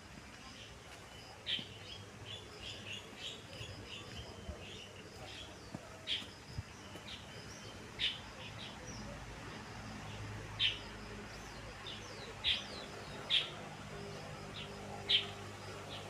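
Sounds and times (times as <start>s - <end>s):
birds chirping: 0.4s - 16.0s.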